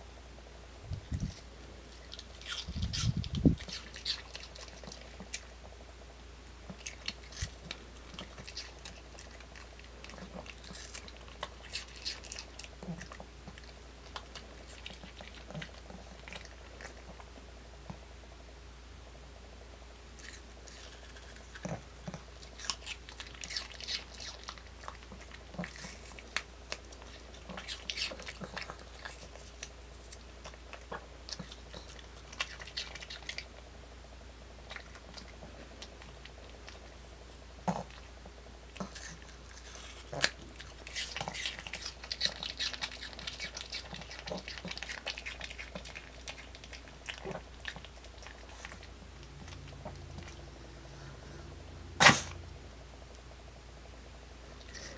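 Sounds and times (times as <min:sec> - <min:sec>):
dog crunching apple: 0:01.0 - 0:05.8, 0:06.5 - 0:17.4, 0:20.2 - 0:33.7, 0:34.6 - 0:50.5, 0:52.0 - 0:52.4.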